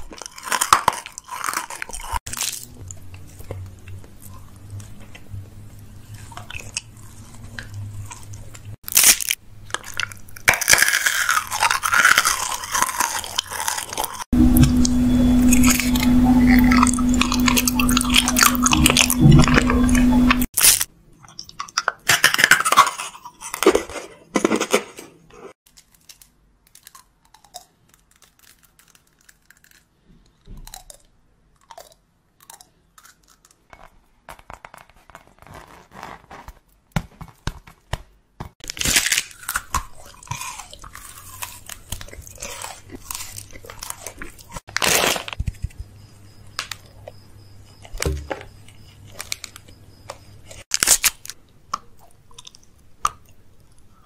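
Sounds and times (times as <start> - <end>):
crunchy snack chewing: 0.0 - 5.3, 6.0 - 24.6, 25.7 - 35.9, 38.6 - 54.0.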